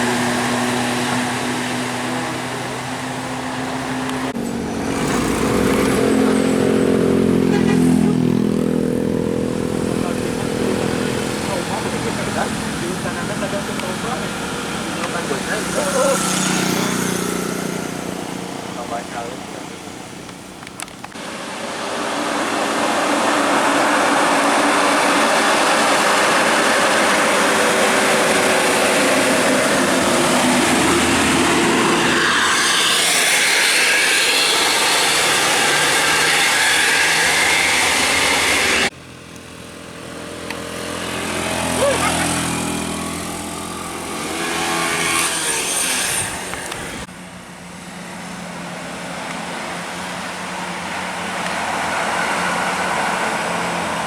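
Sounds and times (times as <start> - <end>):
heavy vehicles passing: 0.0 - 54.0.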